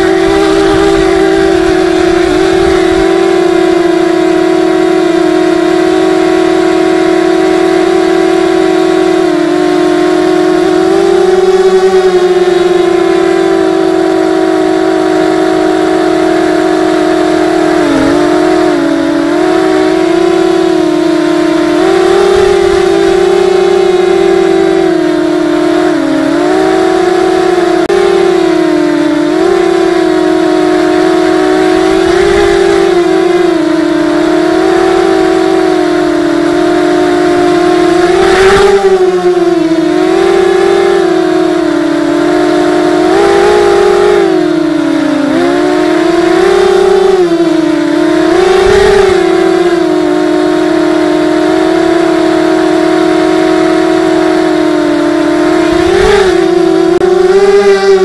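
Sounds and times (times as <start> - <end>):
drone propeller whine: 0.0 - 58.0.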